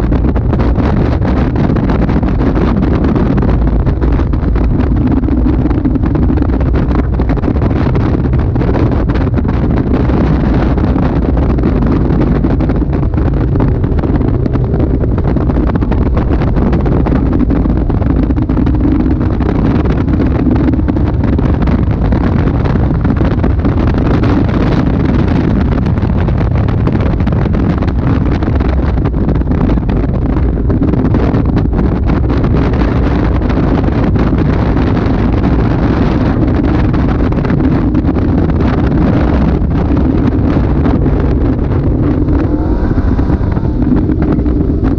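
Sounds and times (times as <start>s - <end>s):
car engine running hard: 0.0s - 44.9s
wind buffeting microphone: 0.0s - 44.9s.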